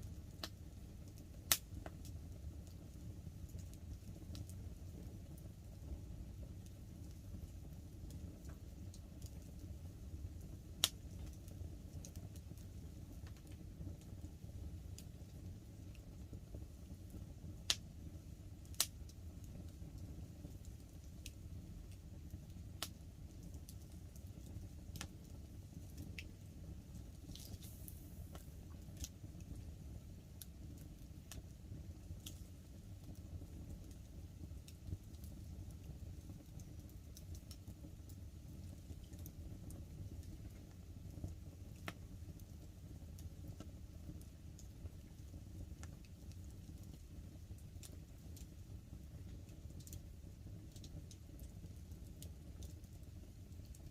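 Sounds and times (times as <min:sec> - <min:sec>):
light rain on a tarp: 0:00.0 - 0:53.9
low rush of flames: 0:00.0 - 0:53.9
wood fire crackling and popping: 0:00.0 - 0:53.9.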